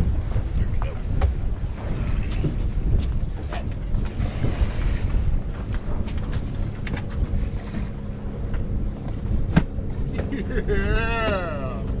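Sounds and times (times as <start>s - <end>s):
waves washing against boat: 0.0s - 12.0s
wind buffeting microphone: 0.0s - 12.0s.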